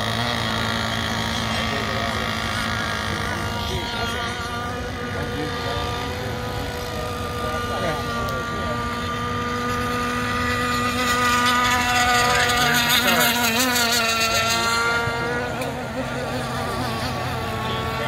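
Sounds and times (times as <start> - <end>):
model boat engines at full throttle: 0.0 - 18.0.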